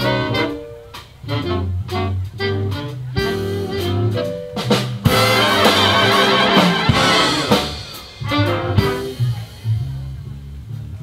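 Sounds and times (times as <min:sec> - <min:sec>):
big band playing swing jazz: 0:00.0 - 0:11.0.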